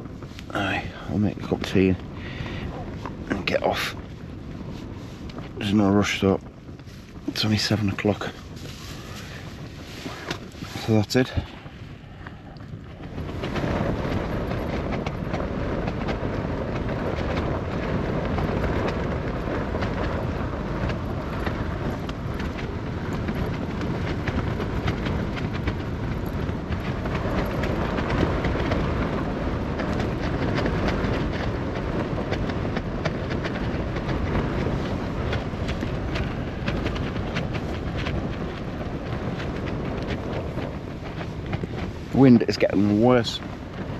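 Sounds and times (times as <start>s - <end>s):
strong wind roaring: 0.0s - 43.9s
tent fabric flapping and rattling: 0.0s - 43.9s.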